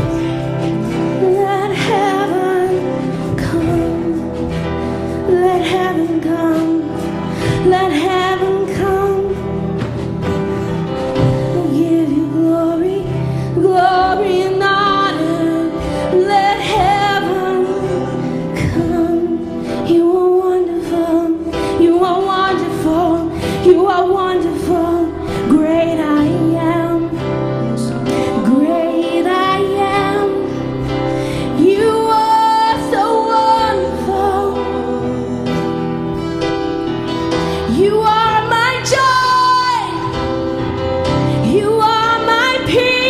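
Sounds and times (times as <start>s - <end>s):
band playing keyboard drums guitar: 0.0s - 43.0s
woman singing: 0.0s - 43.0s.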